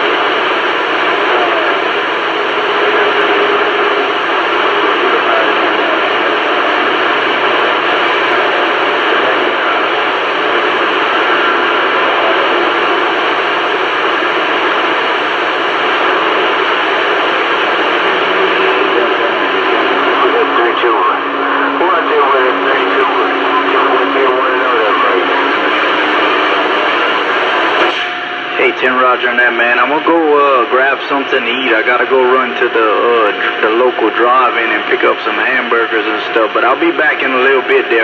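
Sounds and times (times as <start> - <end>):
faint distant radio signals: 0.0 - 38.0
radio static hiss: 0.0 - 38.0.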